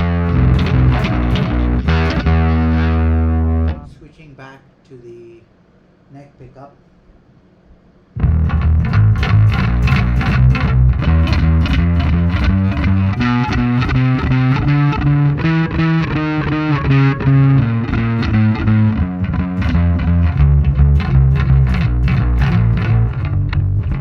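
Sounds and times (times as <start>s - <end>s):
distorted electric bass notes: 0.0s - 3.9s, 8.2s - 24.0s.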